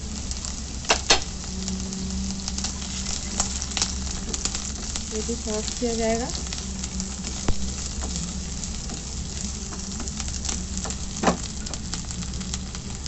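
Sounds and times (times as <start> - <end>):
carrots sizzling in oil: 0.0 - 13.0.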